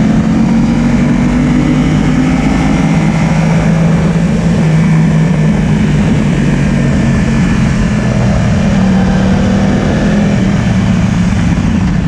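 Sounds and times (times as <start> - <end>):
motorcycle engine running: 0.0 - 12.0
steady rushing noise: 0.0 - 12.0.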